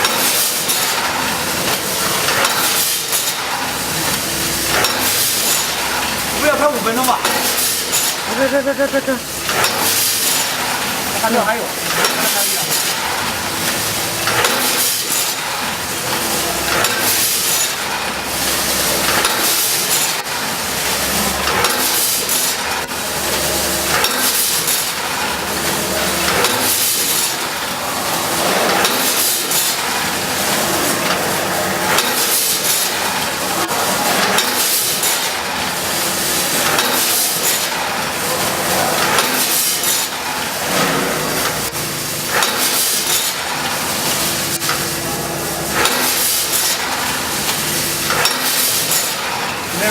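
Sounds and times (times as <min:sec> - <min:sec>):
hissing clattering machine stroke: 0:00.0 - 0:49.9
packaging machine hum: 0:00.0 - 0:49.9.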